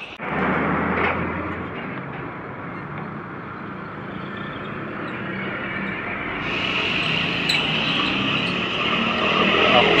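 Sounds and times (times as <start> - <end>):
motorbikes passing: 0.1 - 10.0
diesel truck engine running: 0.2 - 10.0.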